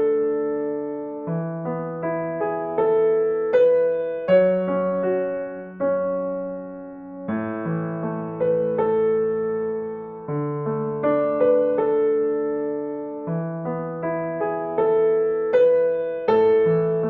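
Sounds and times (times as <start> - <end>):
gentle electric piano music: 0.0 - 17.0.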